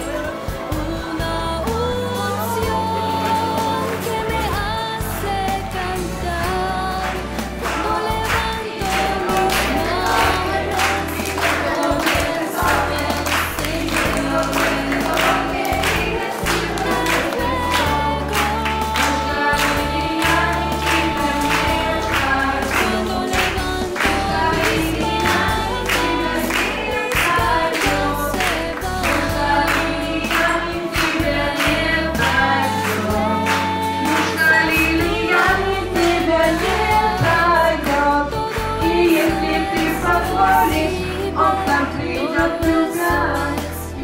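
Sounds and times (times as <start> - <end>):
beat and bass: 0.0 - 44.0
women singing worship song: 0.0 - 44.0.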